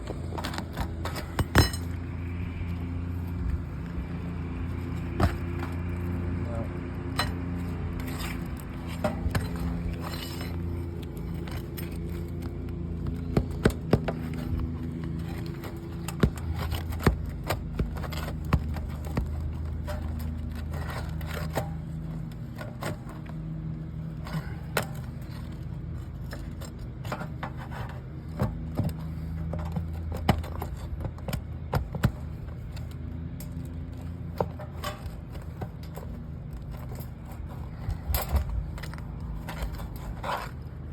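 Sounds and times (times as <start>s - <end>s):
pry bar scraping roof shingles: 0.0s - 40.9s
steady low hum: 0.0s - 40.9s.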